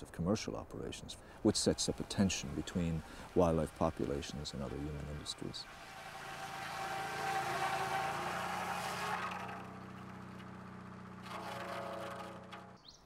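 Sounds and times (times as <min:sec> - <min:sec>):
engine hum: 0:00.6 - 0:13.0
saw cutting a log: 0:01.4 - 0:12.8.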